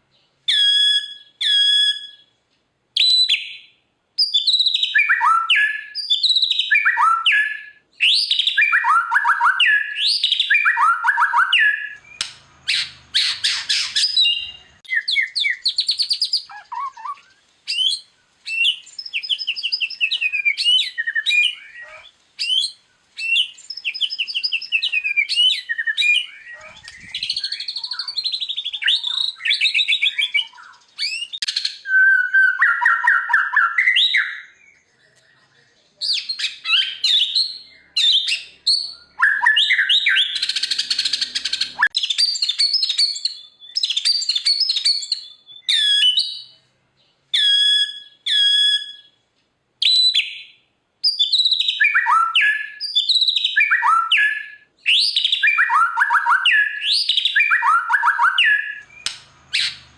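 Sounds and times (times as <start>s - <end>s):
songbird singing varied song: 0.0s - 49.2s, 49.8s - 59.9s.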